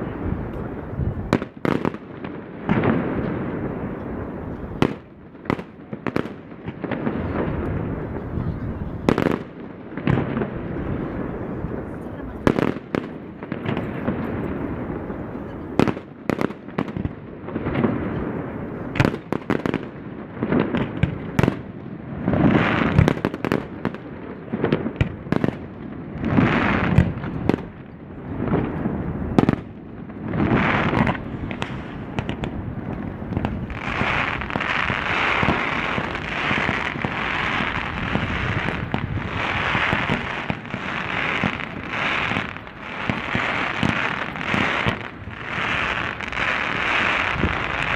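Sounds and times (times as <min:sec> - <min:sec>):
fireworks bangs: 0:00.0 - 0:47.9
fireworks crackle: 0:00.0 - 0:47.9.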